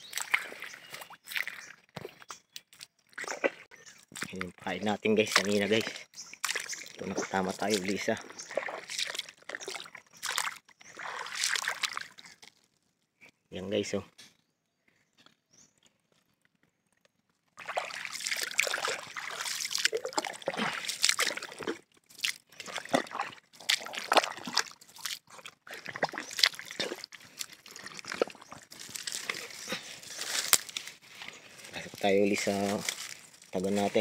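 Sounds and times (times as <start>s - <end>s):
footsteps squelching through water and mud: 0.0s - 13.0s, 16.9s - 34.0s.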